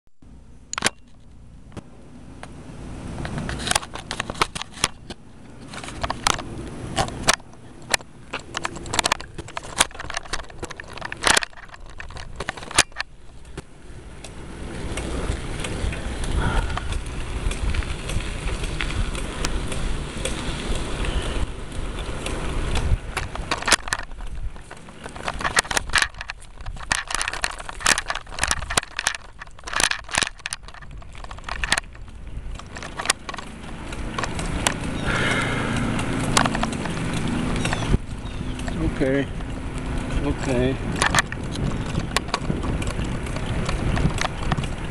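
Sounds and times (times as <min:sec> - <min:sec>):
rushing rumble: 0:00.2 - 0:44.9
bicycle rattling and knocking: 0:00.6 - 0:02.6, 0:03.2 - 0:44.9.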